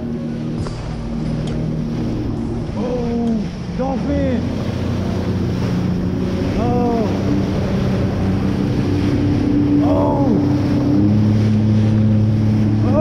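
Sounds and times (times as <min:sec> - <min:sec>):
hull slapping water: 0:00.0 - 0:13.0
jet ski engine drone: 0:00.0 - 0:13.0
rush of spray: 0:00.0 - 0:13.0.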